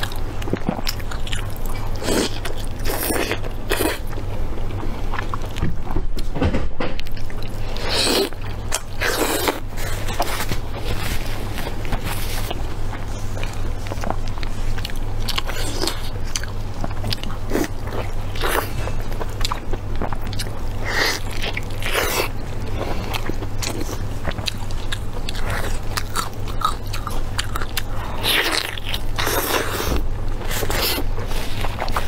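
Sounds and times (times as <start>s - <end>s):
person chewing sticky meat: 0.0s - 6.0s, 7.0s - 32.0s.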